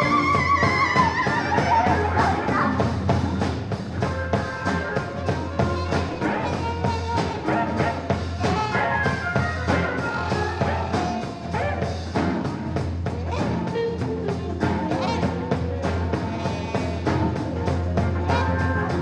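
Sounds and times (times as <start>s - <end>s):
psychedelic rock band playing: 0.0s - 19.0s.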